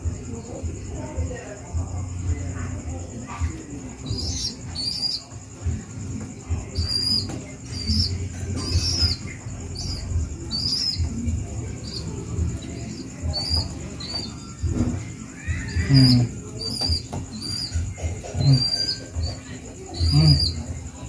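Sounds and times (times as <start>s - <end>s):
young pigeon peeping: 0.0s - 21.0s.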